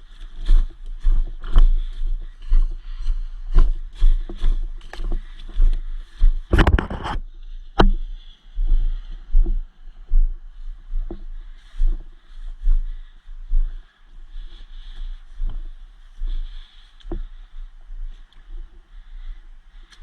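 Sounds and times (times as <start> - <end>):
footsteps through undergrowth: 0.0 - 20.0.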